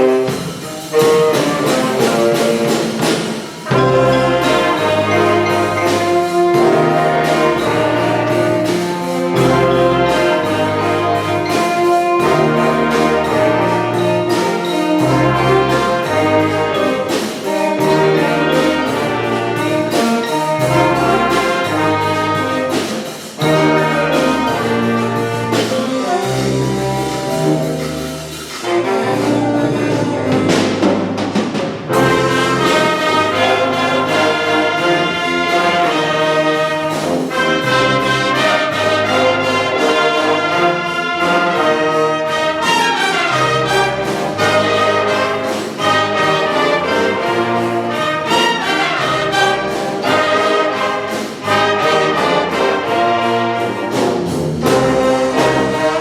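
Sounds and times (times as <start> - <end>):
wind band playing: 0.0 - 56.0.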